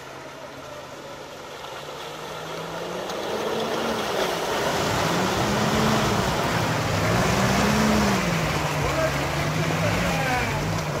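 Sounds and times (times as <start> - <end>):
off-road engine revving: 1.4 - 11.0.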